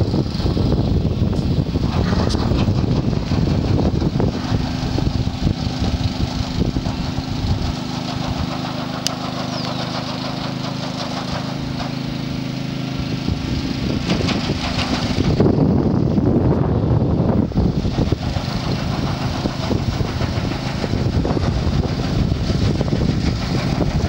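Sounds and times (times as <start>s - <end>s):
small engine running: 0.0s - 24.0s
wind rumbling on microphone: 0.0s - 24.0s.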